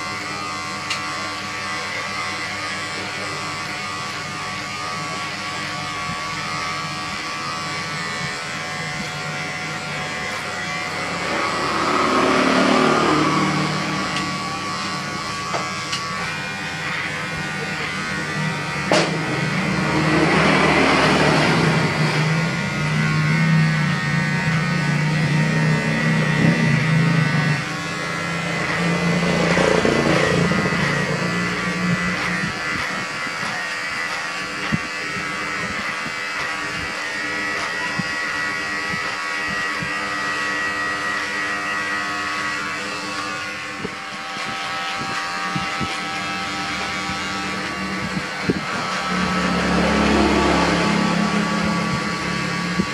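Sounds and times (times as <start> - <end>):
electric hair clipper buzzing: 0.0 - 52.9.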